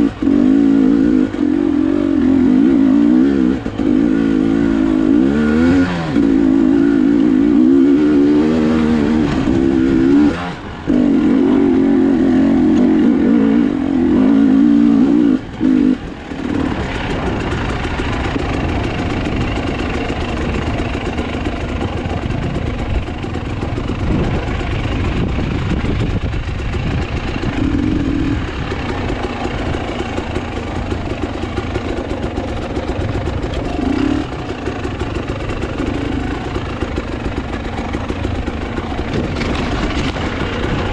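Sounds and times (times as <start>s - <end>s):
motorcycle engine under throttle: 0.0s - 40.9s.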